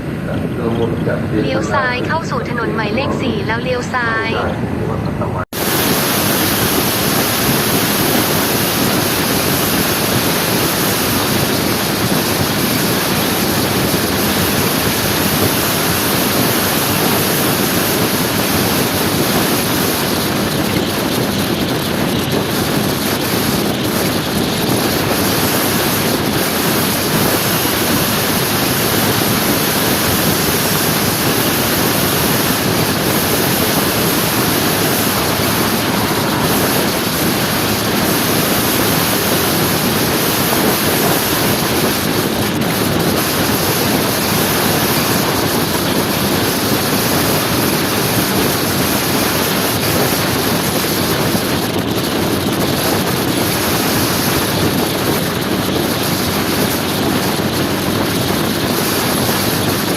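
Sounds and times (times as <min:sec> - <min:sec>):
scooter engine and road noise: 0:00.0 - 0:59.9
wind on microphone: 0:00.0 - 0:59.9.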